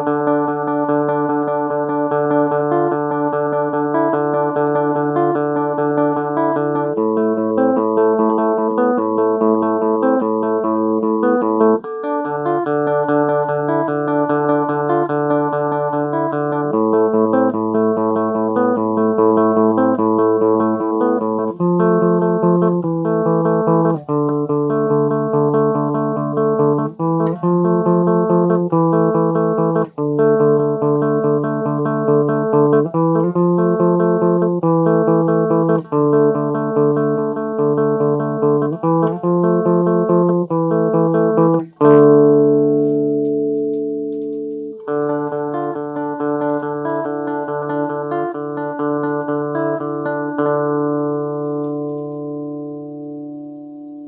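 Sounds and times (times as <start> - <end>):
clean electric guitar chords: 0.0 - 54.0.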